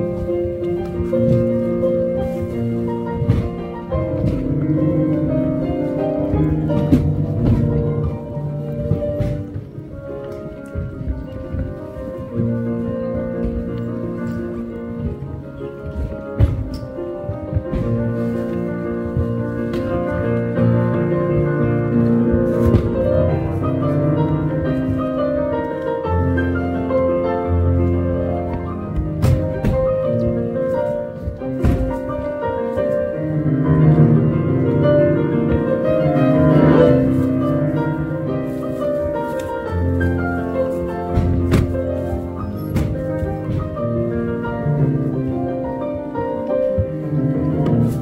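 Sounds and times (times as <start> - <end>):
solo piano melody: 0.0 - 48.0.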